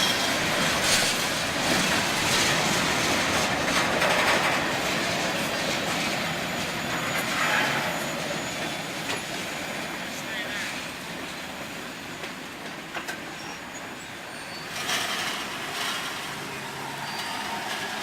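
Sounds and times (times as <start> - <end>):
train rumble and rail noise: 0.0 - 18.0.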